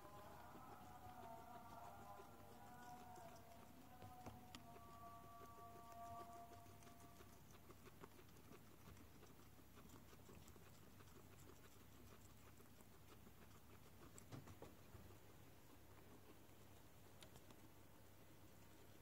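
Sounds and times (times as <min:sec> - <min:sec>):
guinea pigs chewing herbs: 0:00.0 - 0:19.0.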